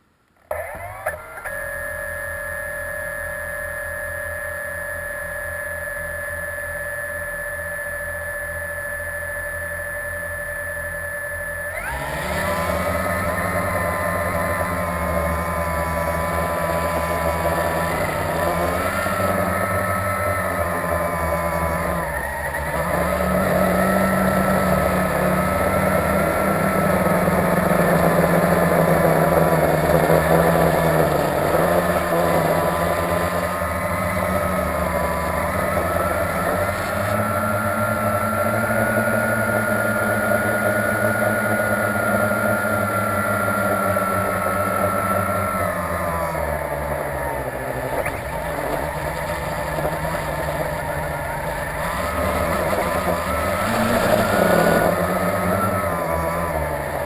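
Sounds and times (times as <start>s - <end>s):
drone motors buzzing whine: 0.0s - 57.0s.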